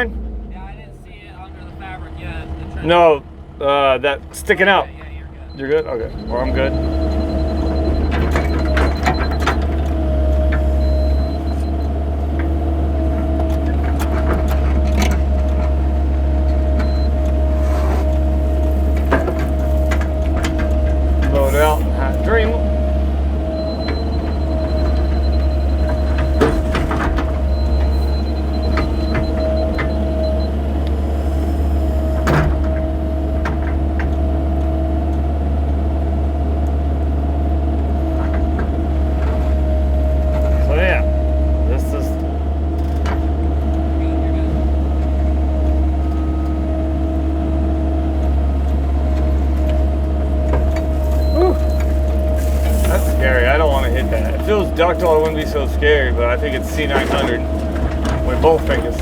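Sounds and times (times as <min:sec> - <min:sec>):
excavator diesel engine running: 0:00.0 - 0:59.0
hydraulic whine: 0:05.4 - 0:34.8, 0:38.0 - 0:59.0.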